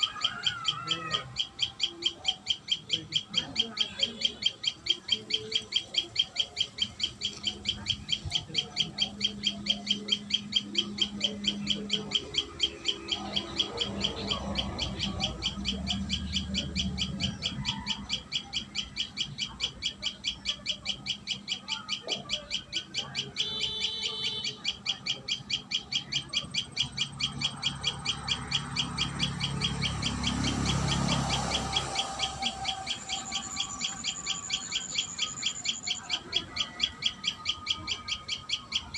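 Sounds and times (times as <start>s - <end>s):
bird chirping high sharp notes: 0.0s - 38.9s.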